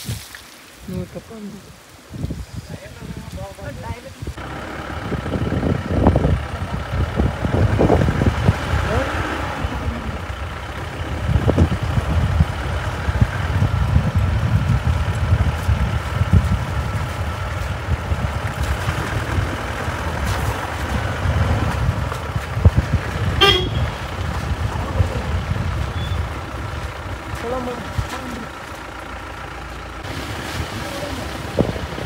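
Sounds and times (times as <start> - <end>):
tyres on wet road: 0.0 - 32.0
vehicle engine rumble: 0.0 - 32.0.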